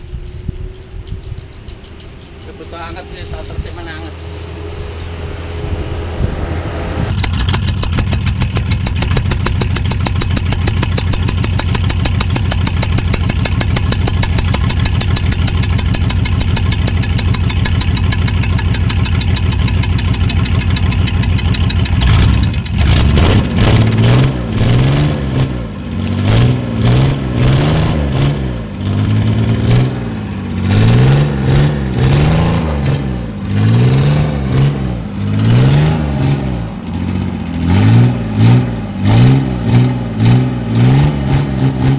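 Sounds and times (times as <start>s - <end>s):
diesel engine revving: 0.0s - 41.9s.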